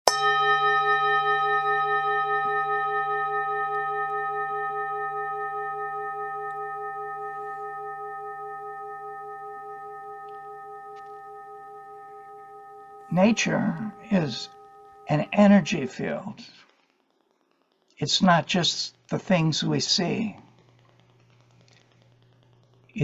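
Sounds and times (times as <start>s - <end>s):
singing bowl ringing: 0.1s - 23.0s.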